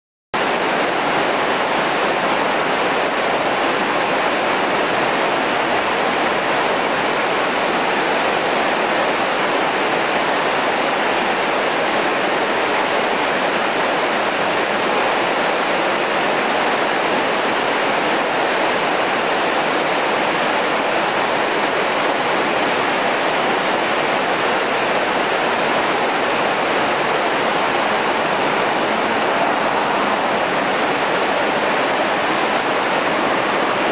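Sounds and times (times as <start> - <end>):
river rushing: 0.4 - 33.9.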